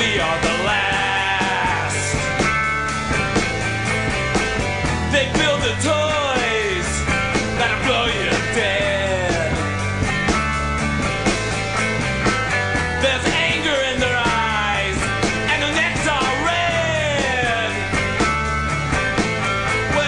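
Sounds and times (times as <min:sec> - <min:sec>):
bass guitar: 0:00.0 - 0:20.0
steady drums: 0:00.0 - 0:20.0.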